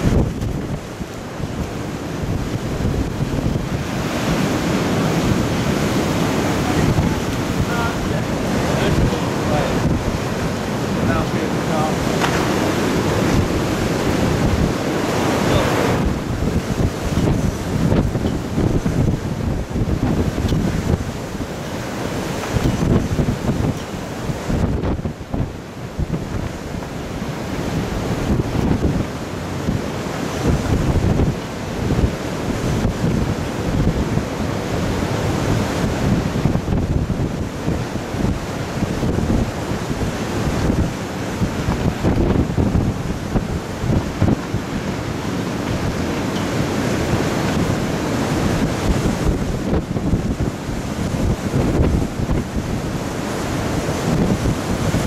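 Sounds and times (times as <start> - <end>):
heavy surf breaking: 0.0 - 55.0
wind buffeting microphone: 0.0 - 55.0.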